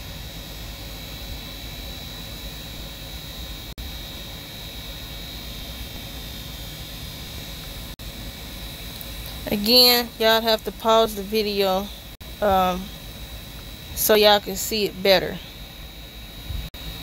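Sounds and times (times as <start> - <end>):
faint high-pitched whine: 0.0 - 17.0
low rumble and hiss: 0.0 - 17.0.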